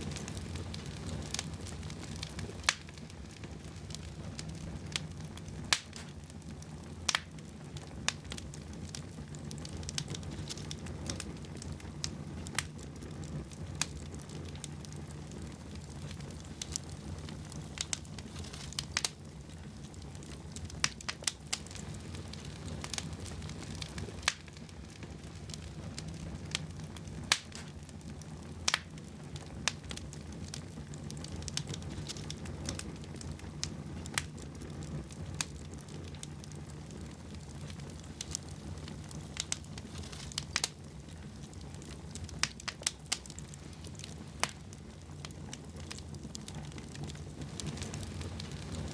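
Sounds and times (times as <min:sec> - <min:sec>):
fire crackling and popping: 0:00.0 - 0:48.9
low rushing of fire: 0:00.0 - 0:48.9.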